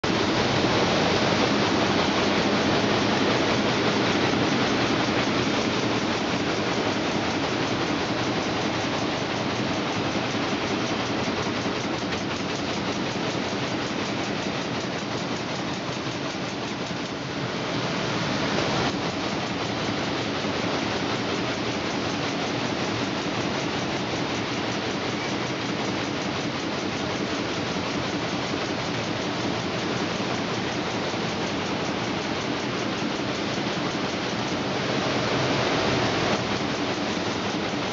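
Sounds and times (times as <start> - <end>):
welding machine clatter and hiss: 0.0 - 37.9.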